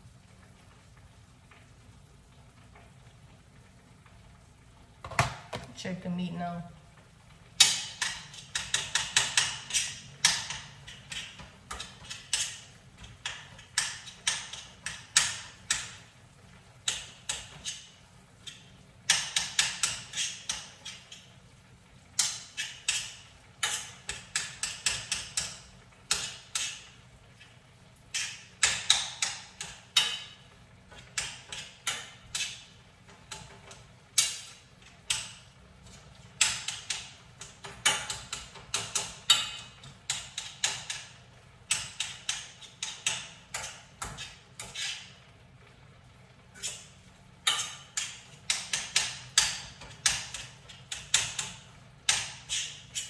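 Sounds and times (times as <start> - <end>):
utensil scraping a pan: 7.6 - 16.2, 16.8 - 21.4, 22.1 - 45.2, 46.5 - 53.0.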